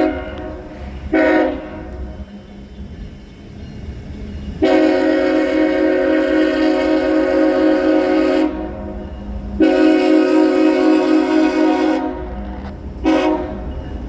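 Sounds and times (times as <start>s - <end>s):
locomotive air horn blasts: 0.0s - 2.3s, 4.6s - 13.7s.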